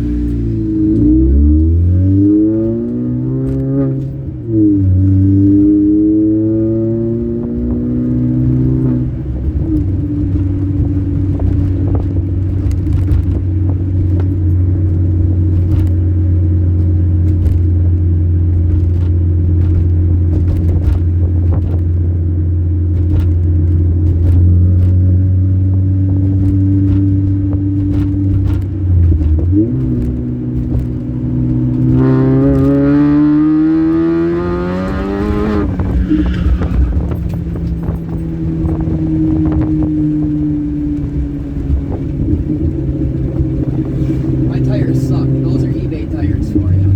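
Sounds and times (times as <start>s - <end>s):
car engine accelerating and droning: 0.0s - 46.9s.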